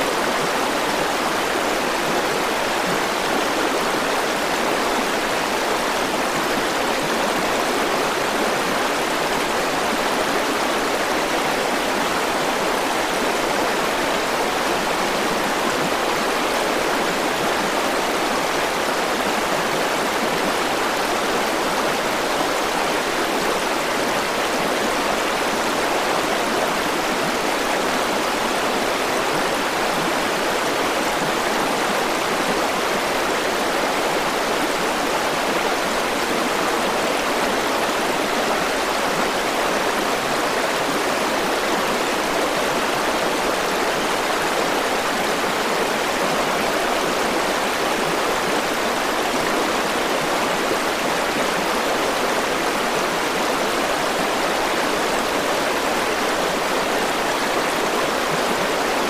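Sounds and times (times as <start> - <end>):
river water flowing over rocks: 0.0 - 59.0.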